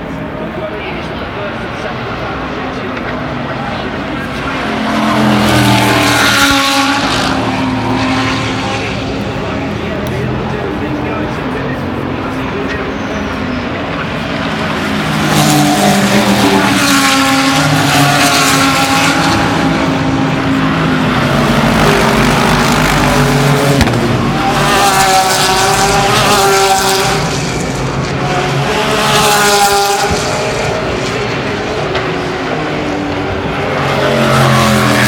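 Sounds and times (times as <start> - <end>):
racing cars passing at speed: 0.0 - 35.0.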